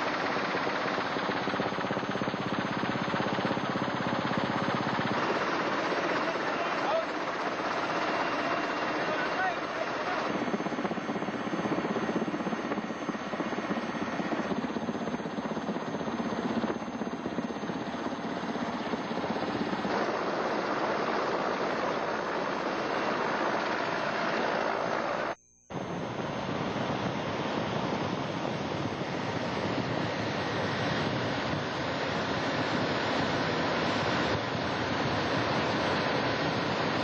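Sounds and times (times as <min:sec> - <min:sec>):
helicopter cabin noise: 0:00.0 - 0:37.0.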